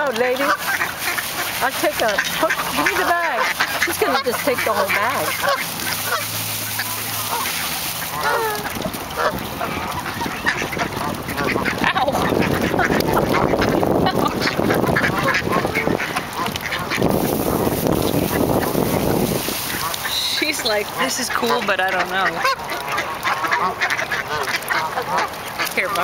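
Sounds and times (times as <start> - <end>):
ducks quacking: 0.0 - 26.0
geese honking: 0.0 - 26.0.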